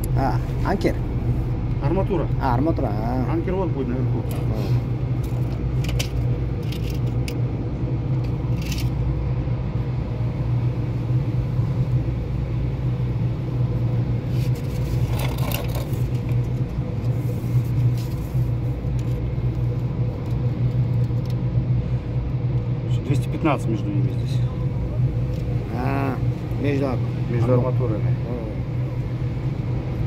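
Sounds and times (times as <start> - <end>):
low mechanical rumble: 0.0 - 30.0.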